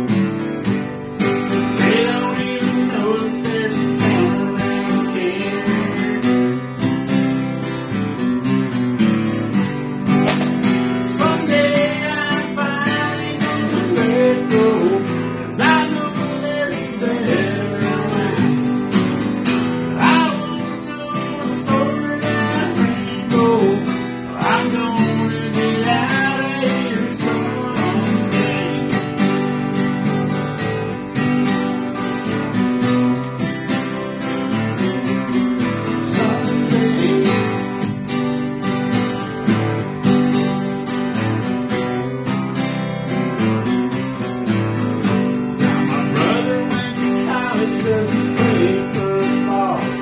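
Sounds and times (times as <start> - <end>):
acoustic guitars strumming: 0.0 - 50.0.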